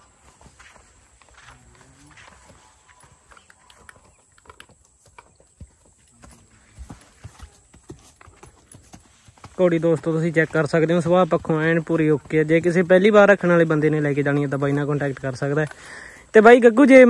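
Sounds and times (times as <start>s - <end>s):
hooves clip-clopping on dirt: 0.0s - 17.0s.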